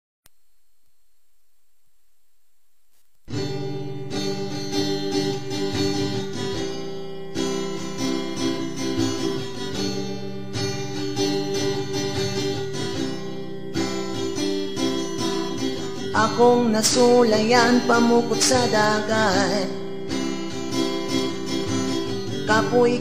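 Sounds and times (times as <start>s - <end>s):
strummed acoustic guitar: 3.2s - 23.0s.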